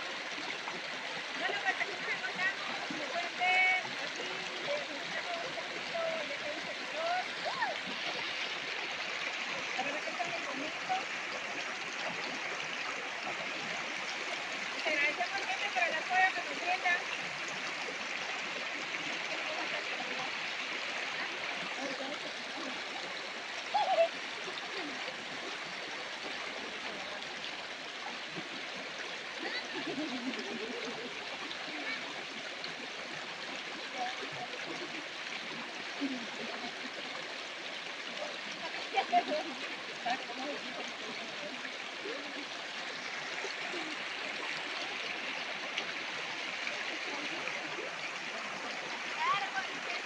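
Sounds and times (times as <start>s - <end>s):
stream rushing over stones: 0.0s - 50.0s.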